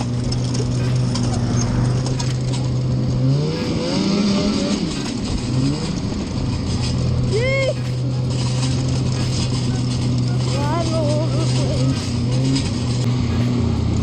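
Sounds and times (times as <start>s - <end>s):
small engine idling and revving: 0.0s - 14.0s.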